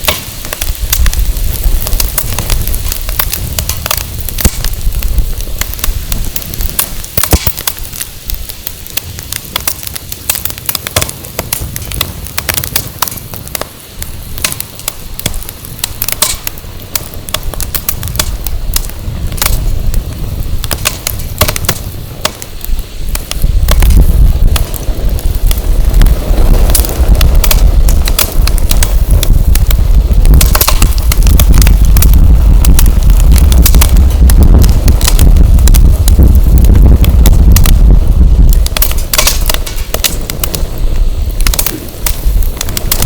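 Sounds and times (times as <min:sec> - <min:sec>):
firewood crackling and popping: 0:00.0 - 0:43.0
wind rumble on microphone: 0:00.0 - 0:43.0.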